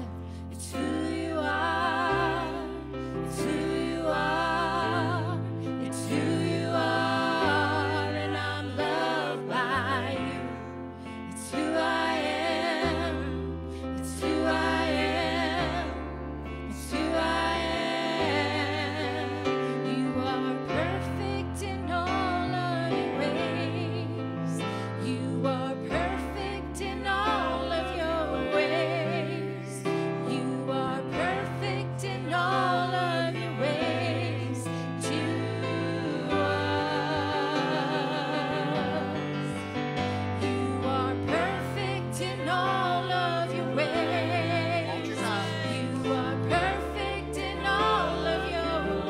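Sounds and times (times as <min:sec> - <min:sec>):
women singing gospel: 0:00.0 - 0:49.0.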